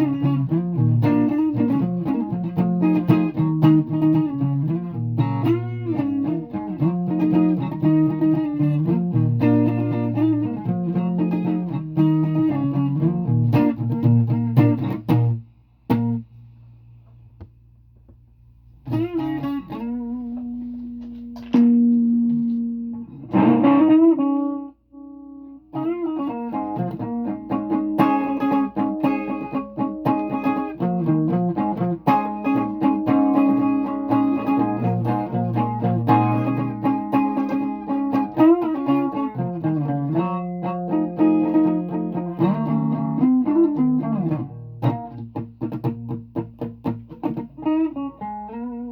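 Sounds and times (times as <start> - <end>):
guitar plucked notes and chords: 0.0 - 16.3, 18.8 - 48.9.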